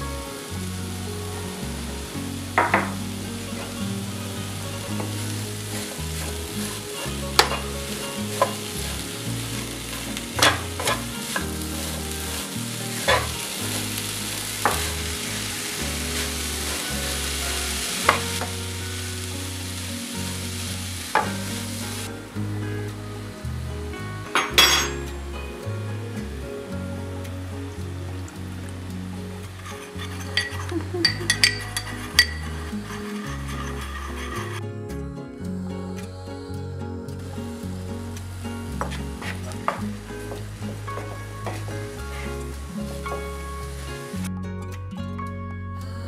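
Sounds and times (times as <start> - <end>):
apples sizzling in frying pan: 0.0 - 34.6, 35.4 - 44.4.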